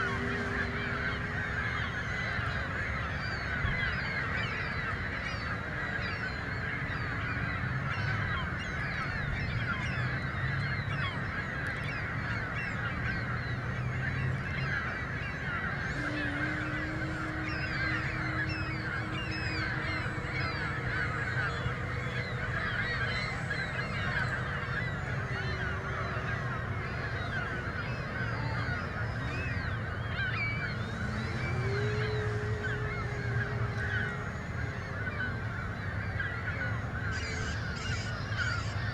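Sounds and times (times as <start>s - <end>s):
flock of birds honking: 0.0s - 38.9s.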